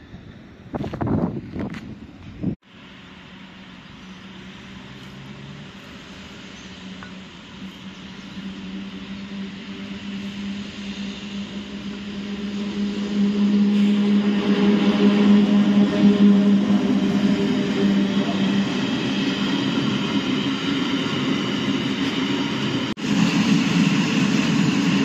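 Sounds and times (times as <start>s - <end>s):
electric locomotive humming: 0.0s - 25.0s
wheels hissing on rails: 0.0s - 25.0s.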